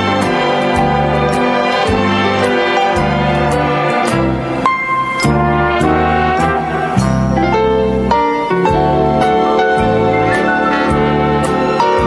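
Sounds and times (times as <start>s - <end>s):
grand piano with orchestra: 0.0s - 12.0s.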